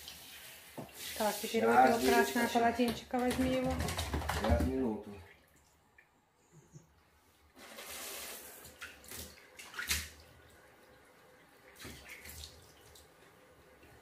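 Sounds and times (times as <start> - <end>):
water splashing in a bathtub: 0.0 - 14.0.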